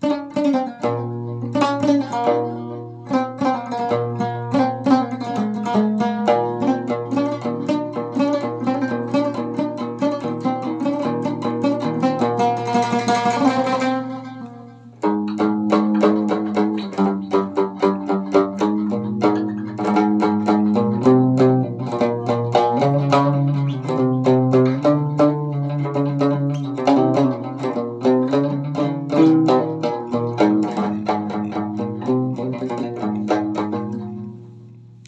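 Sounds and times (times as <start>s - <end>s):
plucked lute melody: 0.0s - 35.0s.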